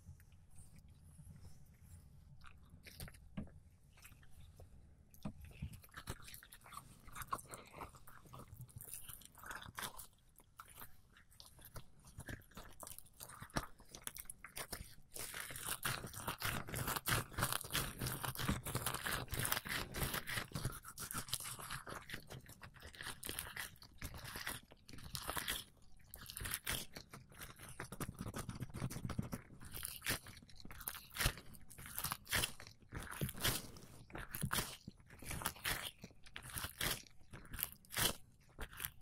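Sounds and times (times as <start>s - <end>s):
greasy rubber gloves squelching: 5.2s - 39.0s.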